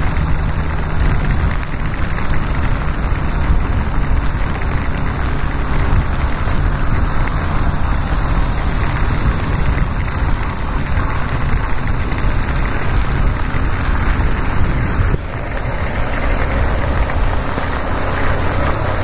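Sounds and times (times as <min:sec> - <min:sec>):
motorcycle wind and road noise: 0:00.0 - 0:19.0
rain and wet tyres hissing: 0:00.0 - 0:19.0.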